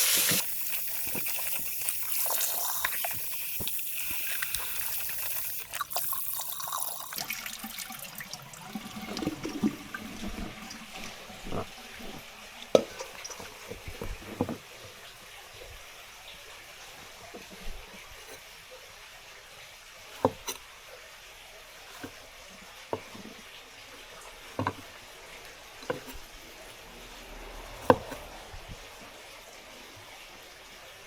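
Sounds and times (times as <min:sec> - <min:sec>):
tap water running into sink: 0:00.0 - 0:18.9, 0:21.8 - 0:31.0.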